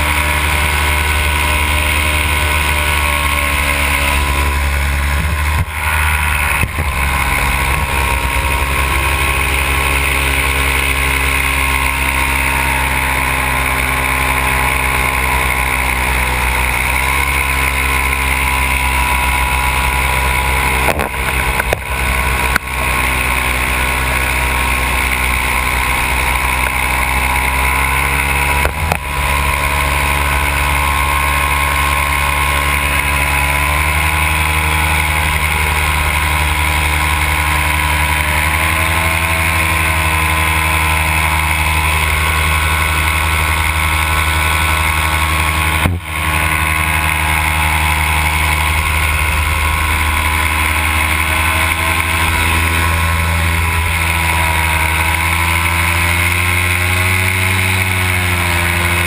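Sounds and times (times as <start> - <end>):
paramotor engine running: 0.0 - 59.0.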